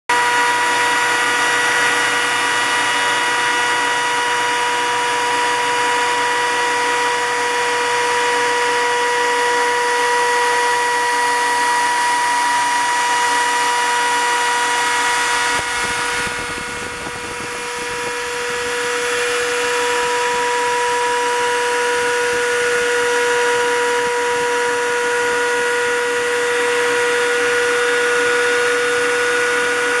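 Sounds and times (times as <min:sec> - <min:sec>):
router spindle high whine: 0:00.1 - 0:30.0.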